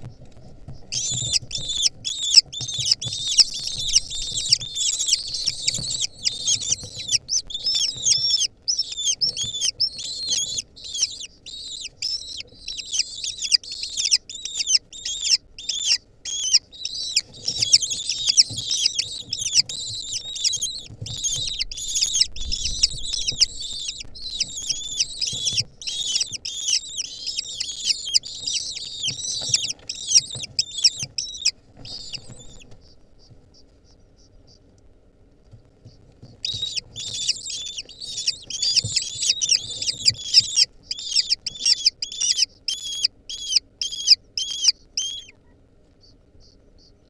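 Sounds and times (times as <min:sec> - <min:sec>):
kestrels calling: 0:00.0 - 0:34.7, 0:35.8 - 0:47.0.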